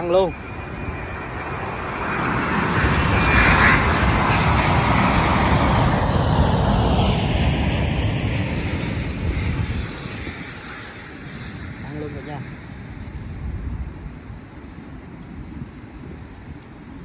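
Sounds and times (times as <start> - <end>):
jet airliner engine roar: 0.0 - 17.0
jet engine whine dropping in pitch: 0.0 - 17.0.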